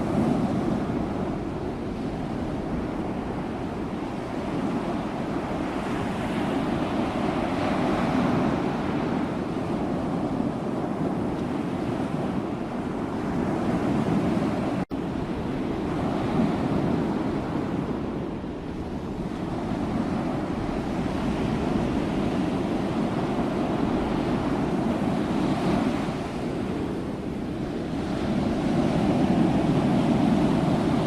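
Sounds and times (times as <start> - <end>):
sea waves surf: 0.0 - 31.0.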